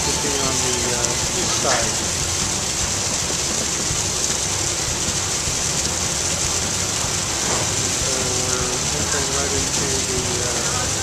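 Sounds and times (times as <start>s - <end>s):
boat engine humming: 0.0s - 11.0s
wind and water hiss: 0.0s - 11.0s.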